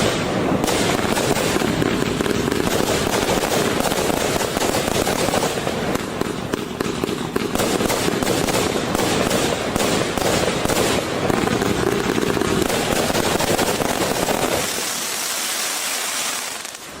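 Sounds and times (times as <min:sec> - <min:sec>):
crackling hiss of crackle stars: 0:00.0 - 0:17.0
firework barrage: 0:00.0 - 0:17.0.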